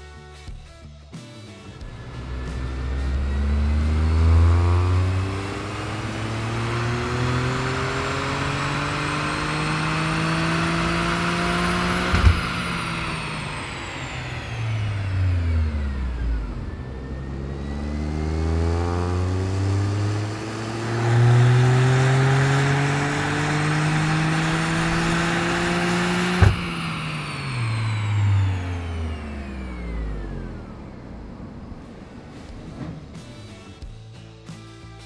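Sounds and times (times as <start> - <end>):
car engine revving on dyno: 1.9 - 32.6.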